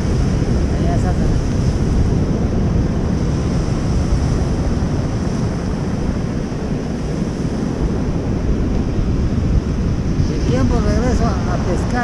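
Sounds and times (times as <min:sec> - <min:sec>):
ocean surf: 0:00.0 - 0:12.0
wind blowing across microphone: 0:00.0 - 0:12.0.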